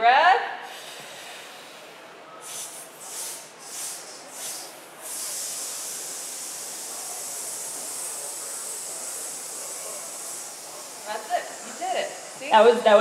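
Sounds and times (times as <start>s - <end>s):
person hissing through teeth: 0.7s - 12.6s.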